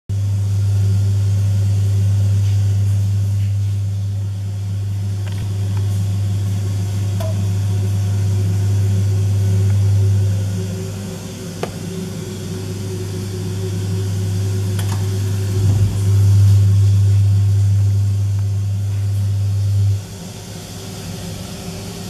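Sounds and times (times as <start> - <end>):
aquarium pump humming: 0.1 - 22.0.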